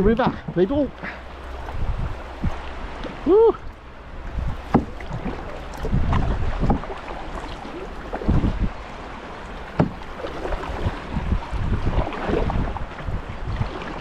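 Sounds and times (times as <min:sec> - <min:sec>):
rippling river water: 0:00.0 - 0:14.0
wind on microphone: 0:00.0 - 0:14.0
kayak paddle splashing: 0:00.2 - 0:14.0.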